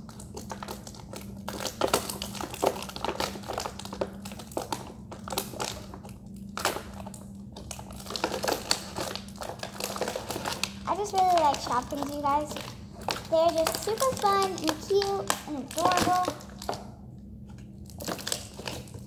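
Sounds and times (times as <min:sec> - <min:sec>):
plastic packaging crinkling: 0:00.0 - 0:17.0, 0:17.6 - 0:19.0.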